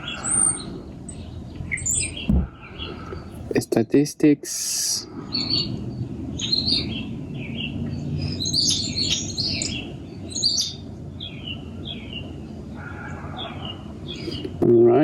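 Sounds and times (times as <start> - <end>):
small birds chirping: 0.0 - 14.9
low background rumble: 0.0 - 15.0.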